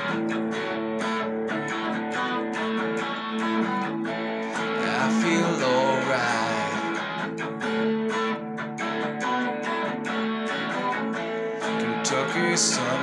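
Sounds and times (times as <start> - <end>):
electric guitar strumming: 0.0 - 13.0.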